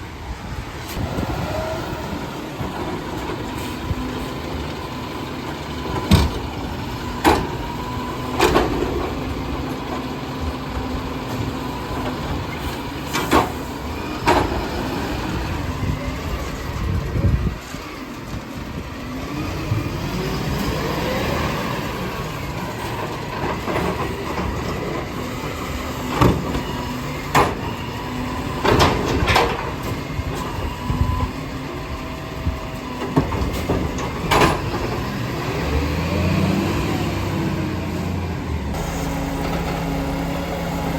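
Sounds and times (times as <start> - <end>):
garbage truck engine running: 0.0 - 40.9.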